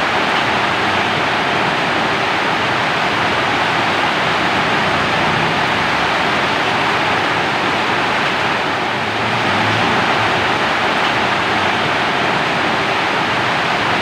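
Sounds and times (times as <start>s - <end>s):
heavy rainfall: 0.0s - 14.0s.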